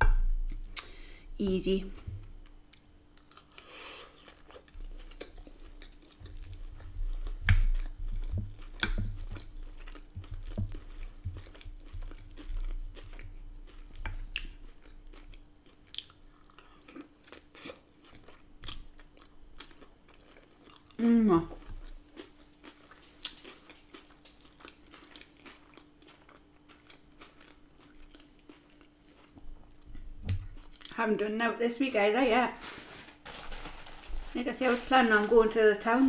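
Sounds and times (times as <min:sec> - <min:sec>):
faint steady hum: 0:00.0 - 0:36.0
chewing and crunching salad: 0:01.9 - 0:31.2.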